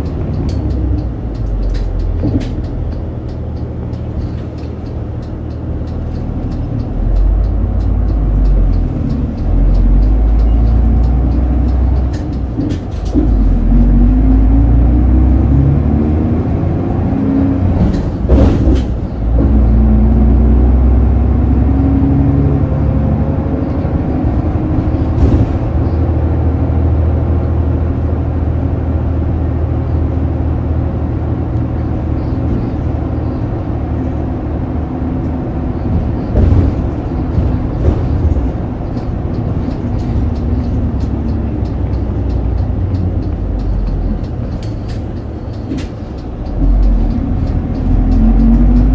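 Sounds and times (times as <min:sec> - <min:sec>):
bus diesel engine: 0:00.0 - 0:48.9.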